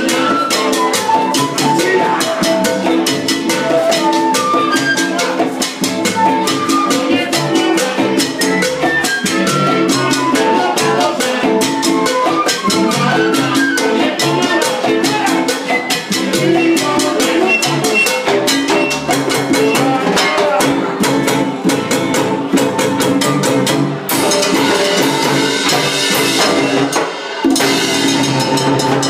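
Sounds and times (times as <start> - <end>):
salsa band playing: 0.0 - 29.0.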